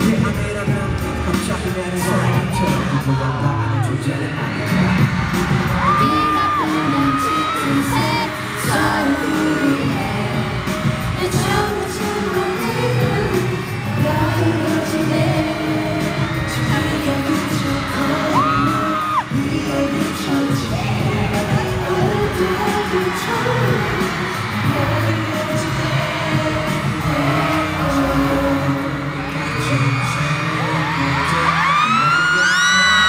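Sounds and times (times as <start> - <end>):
live pop song with male vocals: 0.0 - 33.0.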